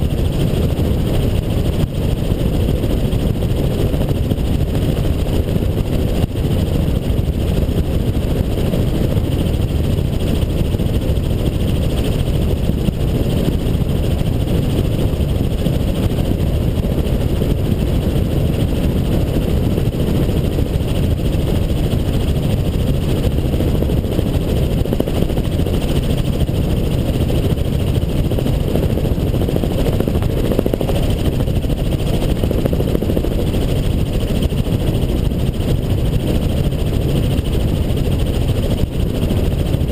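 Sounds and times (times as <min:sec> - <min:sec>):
helicopter in flight: 0:00.0 - 0:39.9.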